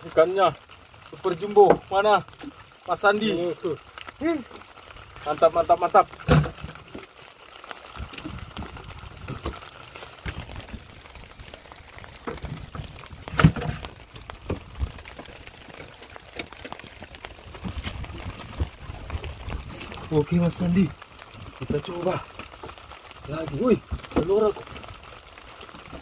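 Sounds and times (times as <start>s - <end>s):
drizzle pattering on boat and sea: 0.0s - 26.0s.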